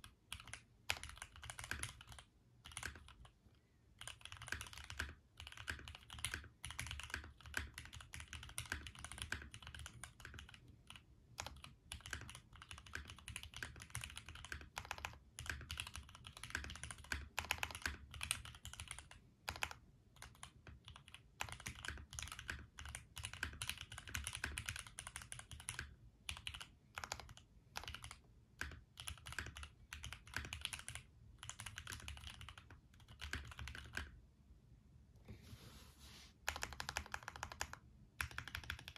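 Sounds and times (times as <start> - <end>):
mechanical keyboard typing: 0.0 - 3.4, 4.0 - 34.2, 36.4 - 38.9.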